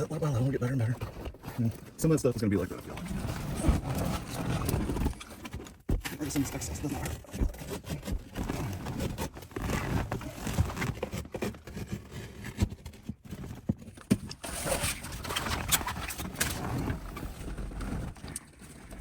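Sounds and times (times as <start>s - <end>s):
scraping rustles of material: 0.0s - 19.0s.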